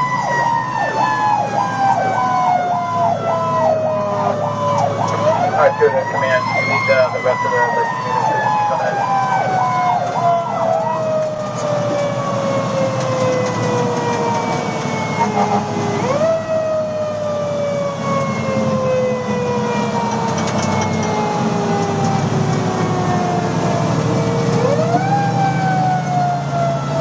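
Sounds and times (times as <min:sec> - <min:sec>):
fire engine siren wailing: 0:00.0 - 0:27.0
siren warbling yelp: 0:00.0 - 0:27.0
truck engine rumbling: 0:00.0 - 0:27.0.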